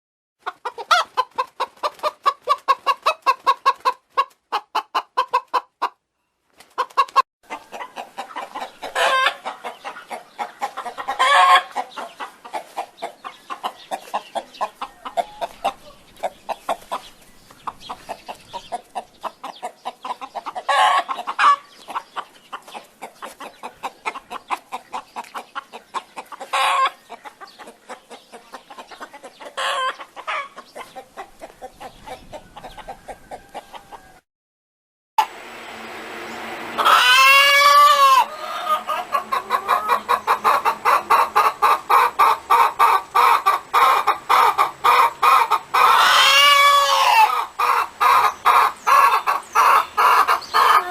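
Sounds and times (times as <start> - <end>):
chicken cackling calls: 0.4 - 6.0, 6.8 - 34.2, 36.4 - 50.9
chicken clucking: 0.4 - 6.0, 6.6 - 34.2, 36.7 - 50.9.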